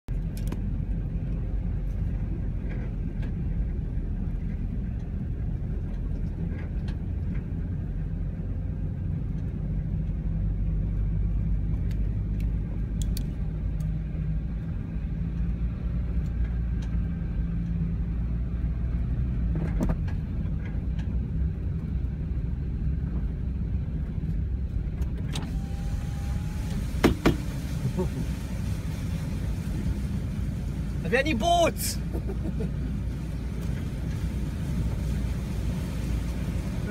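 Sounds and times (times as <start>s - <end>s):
car driving through floodwater: 0.1s - 36.9s.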